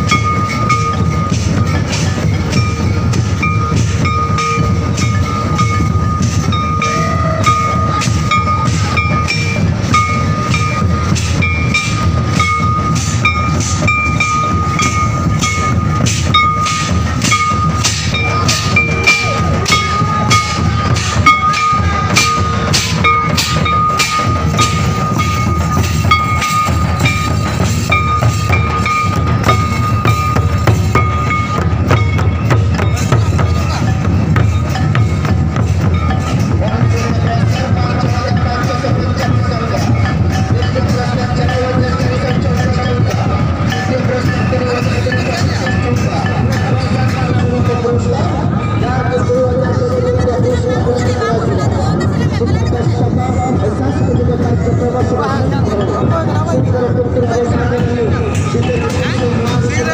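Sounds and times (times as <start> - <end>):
folk drums beating: 0.0 - 59.9
high held tone: 0.0 - 59.9
kettle drum: 0.0 - 59.9.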